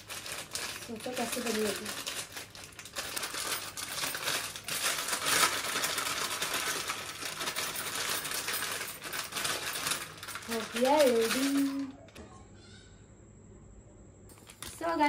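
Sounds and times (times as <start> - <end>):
crisp packet crinkling: 0.0 - 11.9, 14.3 - 15.0.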